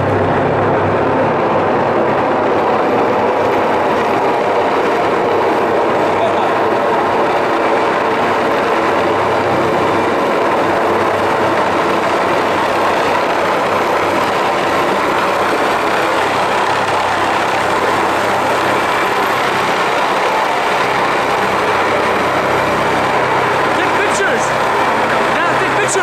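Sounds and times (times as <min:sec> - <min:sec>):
helicopter rotor and engine: 0:00.0 - 0:26.0.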